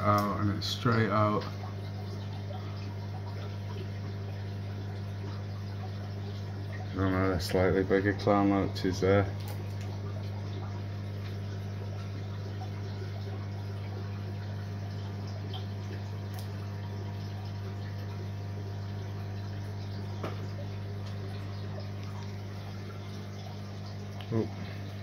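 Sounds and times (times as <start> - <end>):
pump humming: 0.0 - 25.0
water trickling and splashing: 0.0 - 25.0.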